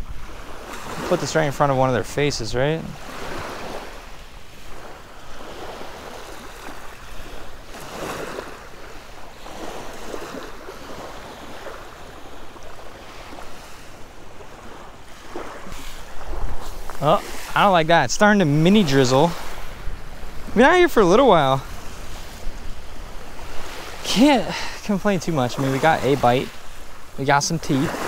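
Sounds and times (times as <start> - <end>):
waves washing onto gravel beach: 0.0 - 28.0
wind buffeting microphone: 2.9 - 28.0.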